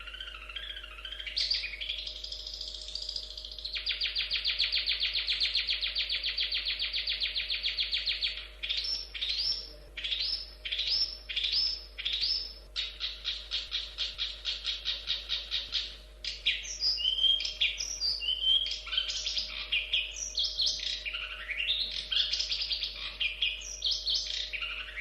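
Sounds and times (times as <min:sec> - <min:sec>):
bird singing: 0:00.0 - 0:25.0.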